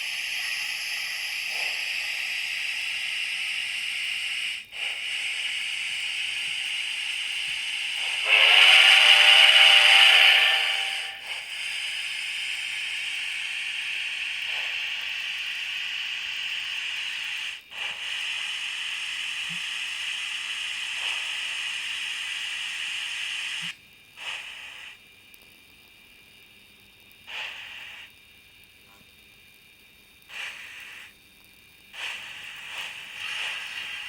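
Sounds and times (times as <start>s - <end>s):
steam hiss from small speaker: 0.0s - 34.0s.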